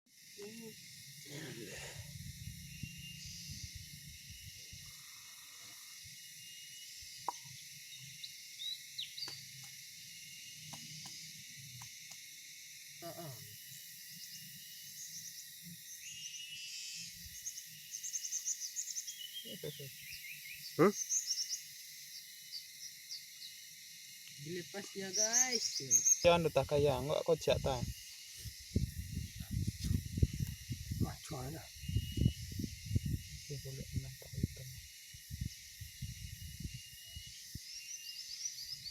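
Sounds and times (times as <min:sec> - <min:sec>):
insects chorus: 0:00.1 - 0:38.9.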